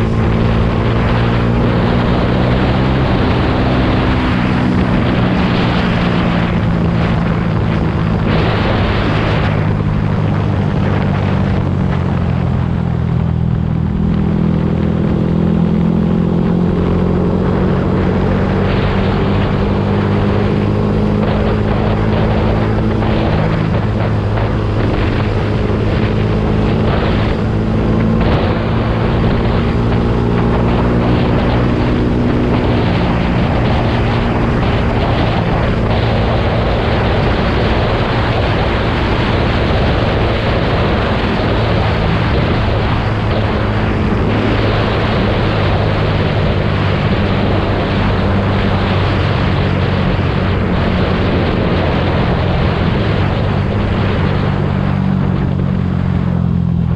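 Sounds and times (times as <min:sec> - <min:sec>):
motorcycle engine exhaust: 0:00.0 - 0:56.9
wind noise on microphone: 0:00.0 - 0:56.9.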